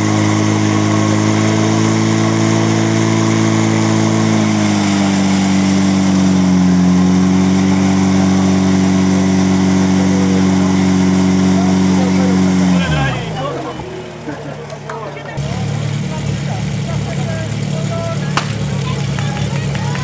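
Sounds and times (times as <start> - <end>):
pump engine running at high revs: 0.0 - 20.0.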